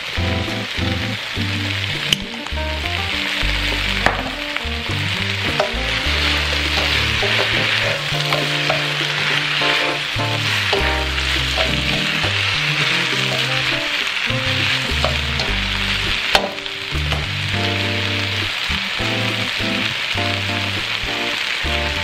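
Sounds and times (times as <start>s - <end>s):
background music with bass: 0.0s - 22.0s
food sizzling in a wok: 3.0s - 22.0s.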